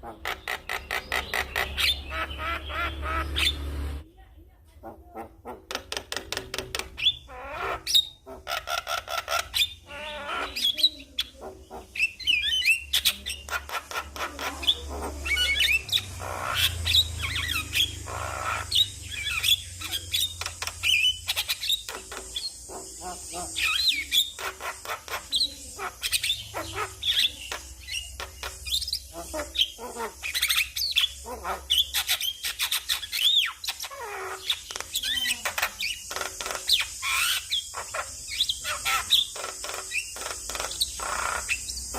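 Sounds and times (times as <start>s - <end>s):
myna bird singing: 0.0s - 4.0s, 4.8s - 41.9s.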